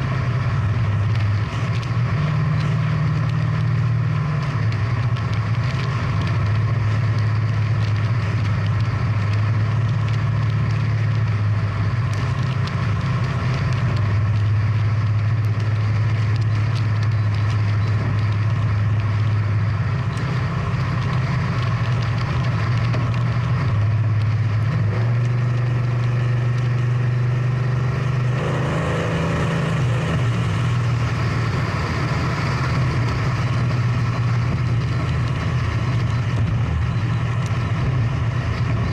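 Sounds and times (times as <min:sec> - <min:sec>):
car engine running at low revs: 0:00.0 - 0:38.9
second engine: 0:00.0 - 0:38.9.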